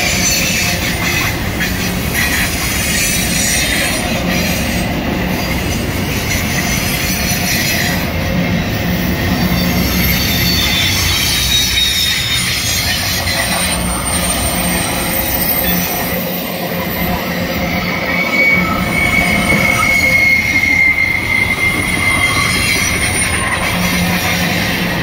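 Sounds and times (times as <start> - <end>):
freight train wheels rumbling: 0.0 - 25.0
high wheel squeal: 0.0 - 25.0.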